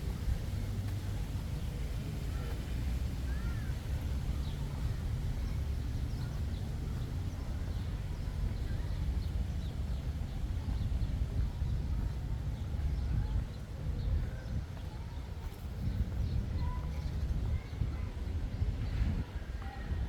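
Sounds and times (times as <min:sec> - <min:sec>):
low street rumble: 0:00.0 - 0:20.0.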